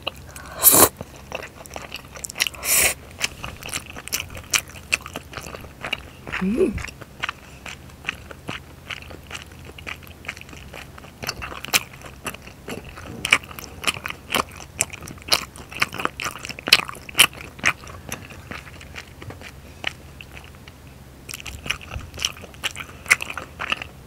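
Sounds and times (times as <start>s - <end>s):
person chewing with mouth clicks: 0.0s - 24.0s.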